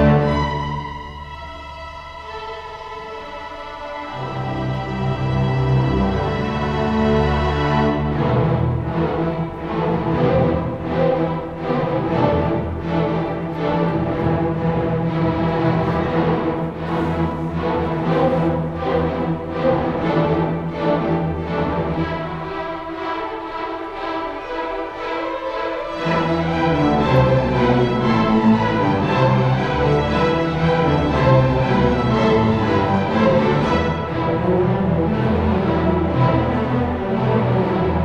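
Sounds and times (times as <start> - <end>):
orchestra playing classical music: 0.0 - 38.0.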